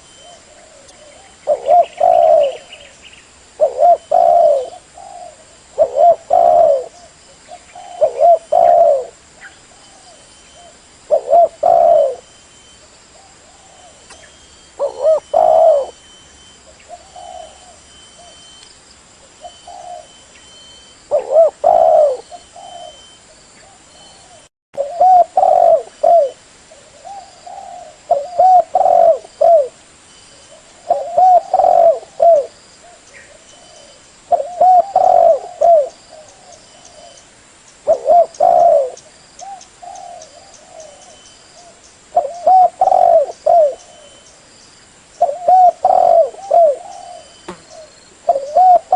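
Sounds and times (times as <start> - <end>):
dove cooing: 0.0 - 3.0, 3.6 - 12.3, 13.2 - 16.0, 16.6 - 18.5, 19.3 - 20.2, 21.1 - 29.8, 30.5 - 37.2, 37.8 - 44.2, 45.2 - 48.9.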